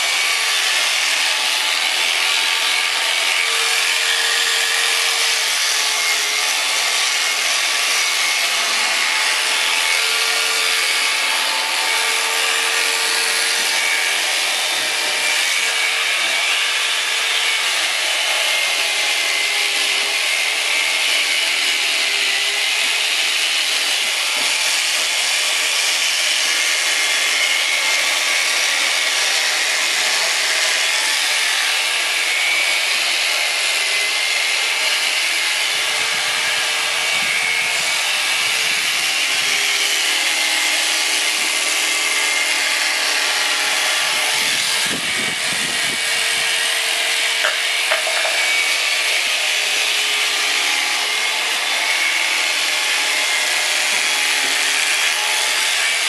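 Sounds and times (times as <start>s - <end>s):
electric shears cutting fleece: 0.0s - 56.0s.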